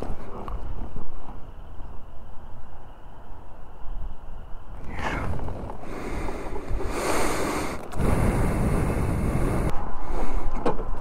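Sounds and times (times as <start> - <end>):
wind gusting on microphone: 0.0 - 11.0.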